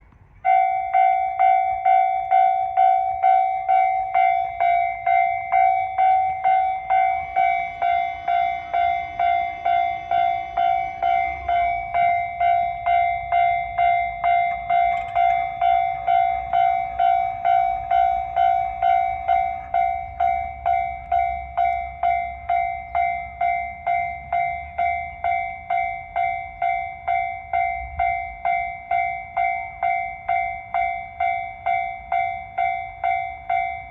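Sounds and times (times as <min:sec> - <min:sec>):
faint low train rumble: 0:00.0 - 0:33.9
level-crossing warning bell: 0:00.0 - 0:33.9.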